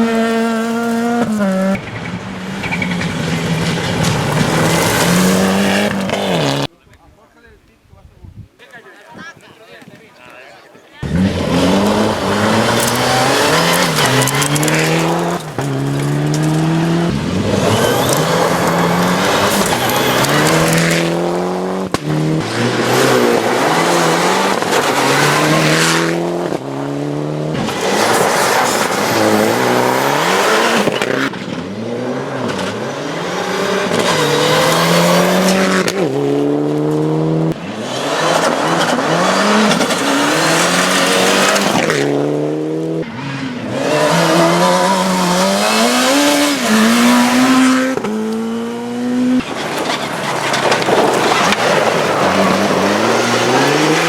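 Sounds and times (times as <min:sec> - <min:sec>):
rally car engines revving: 0:00.0 - 0:06.7, 0:11.0 - 0:54.0.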